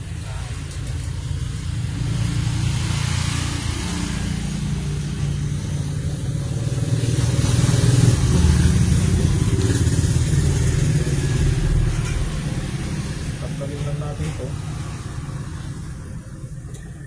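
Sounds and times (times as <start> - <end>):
motor running with low rumble: 0.0 - 17.0.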